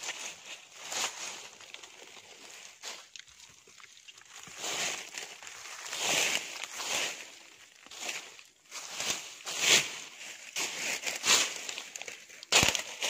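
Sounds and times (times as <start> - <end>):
dry leaves rustling and crunching: 0.0 - 3.3, 4.2 - 13.0.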